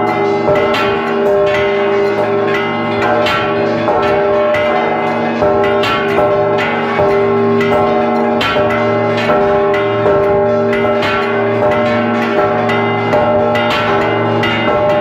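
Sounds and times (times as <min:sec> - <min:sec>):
church bell ringing: 0:00.0 - 0:15.0.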